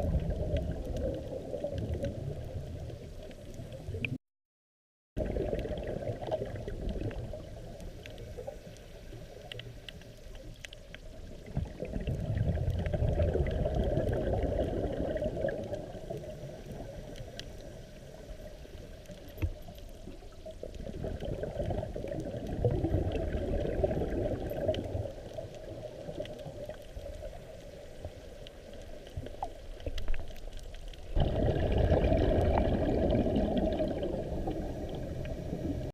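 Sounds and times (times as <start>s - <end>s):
exhaled bubbles rushing underwater: 0.0s - 4.2s, 5.2s - 35.9s.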